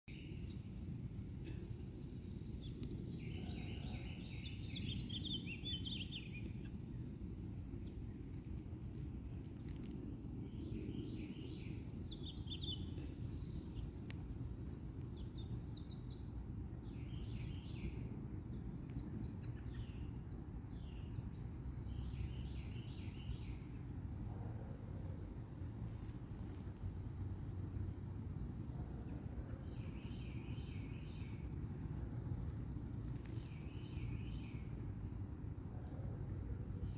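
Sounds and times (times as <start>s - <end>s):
songbirds singing: 0.1s - 36.9s
steady low rumble: 0.1s - 36.9s.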